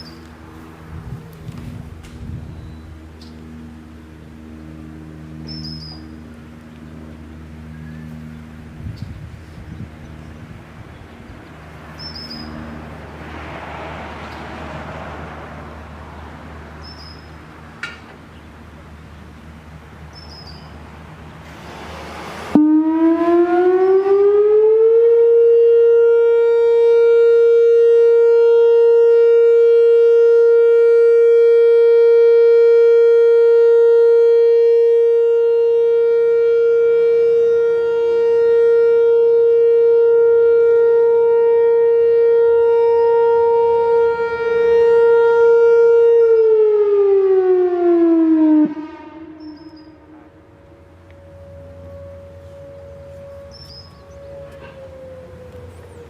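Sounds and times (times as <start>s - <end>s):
outdoor warning siren steady tone: 0.0s - 56.0s.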